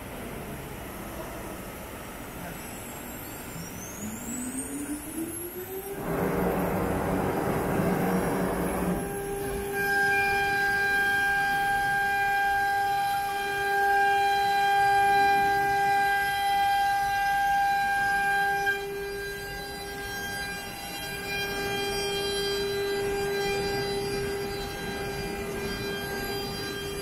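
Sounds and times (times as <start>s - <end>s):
router spindle high-pitched whine: 0.7s - 27.0s.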